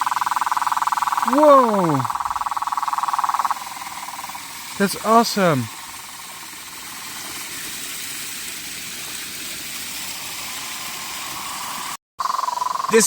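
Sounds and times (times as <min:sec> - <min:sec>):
water rushing: 0:01.1 - 0:12.0.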